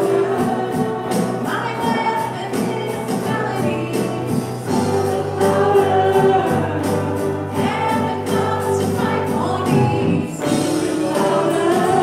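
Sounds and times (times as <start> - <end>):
instrumental accompaniment: 0.0 - 12.0
voices singing gospel song: 0.0 - 12.0.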